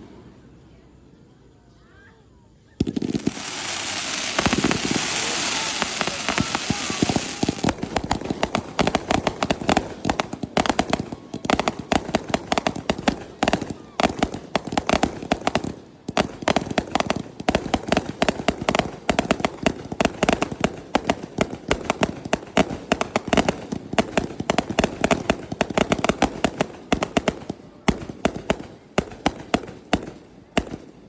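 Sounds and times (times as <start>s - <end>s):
fireworks bangs and crackles: 2.8s - 31.0s.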